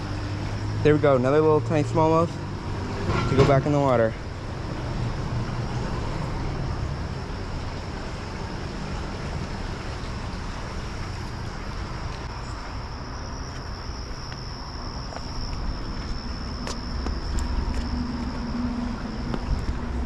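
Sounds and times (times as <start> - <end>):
rushing background noise: 0.0 - 20.0.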